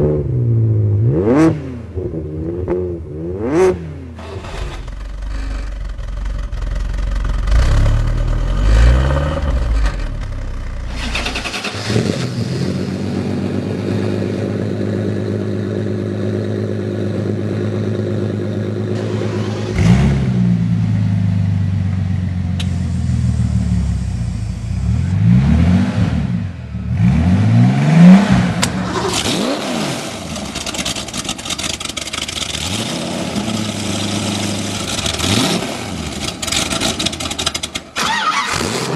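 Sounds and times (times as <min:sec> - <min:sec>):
sports car engines revving: 0:00.0 - 0:05.0, 0:10.9 - 0:38.9.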